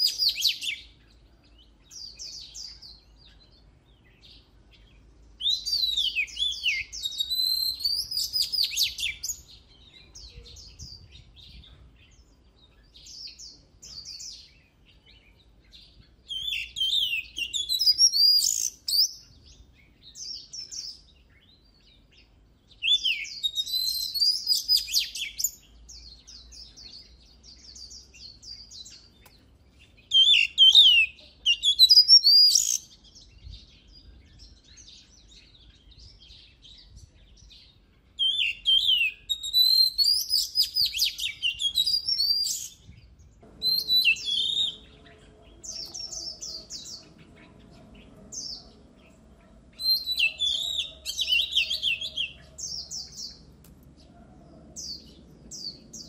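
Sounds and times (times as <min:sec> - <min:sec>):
bird singing whistled trills: 0:00.0 - 0:53.4.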